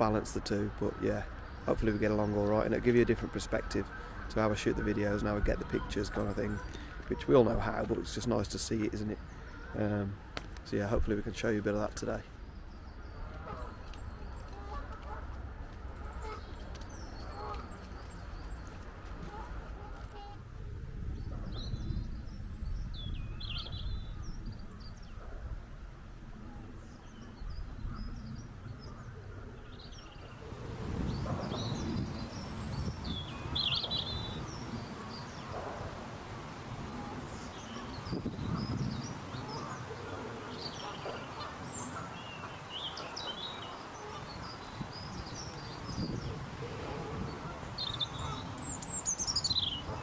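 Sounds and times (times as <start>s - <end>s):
songbirds singing and calling: 0.0s - 50.0s.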